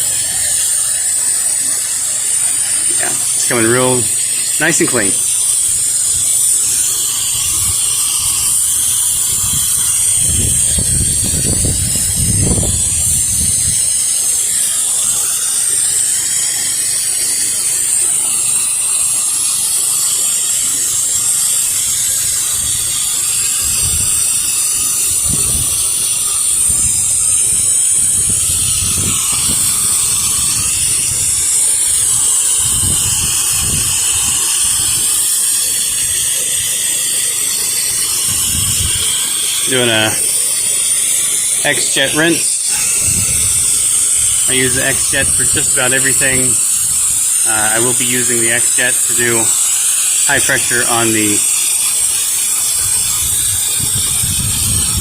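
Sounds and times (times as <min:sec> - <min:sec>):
pressure washer jet hissing: 0:00.0 - 0:55.0.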